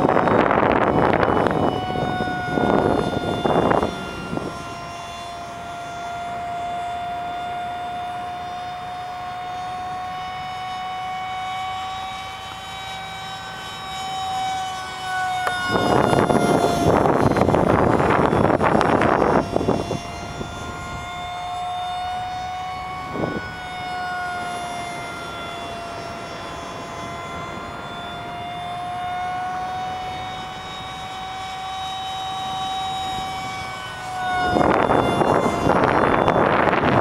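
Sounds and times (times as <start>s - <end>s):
jet fighter engine whine: 0.0s - 37.0s.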